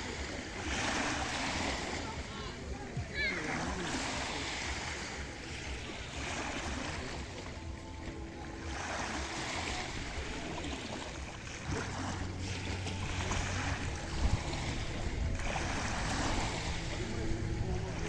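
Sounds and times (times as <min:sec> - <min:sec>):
low steady drone: 0:00.0 - 0:18.0
waves breaking on shore: 0:00.0 - 0:18.0
wind on microphone: 0:00.0 - 0:18.0.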